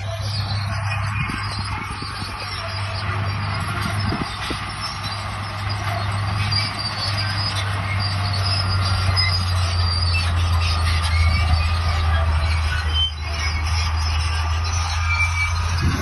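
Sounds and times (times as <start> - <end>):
bulldozer diesel engine drone: 0.0 - 16.0
steel tracks squeaking: 0.0 - 16.0.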